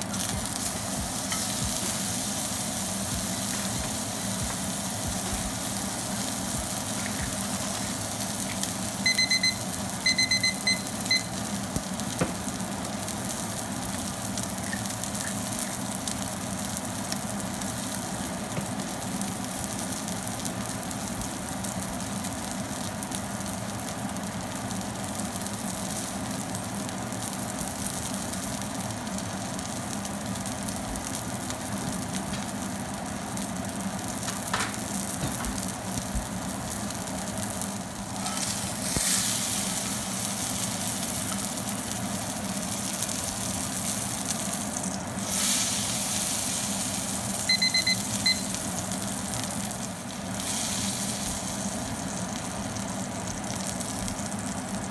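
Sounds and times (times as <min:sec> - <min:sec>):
steak sizzling in a skillet: 0:00.0 - 0:54.9.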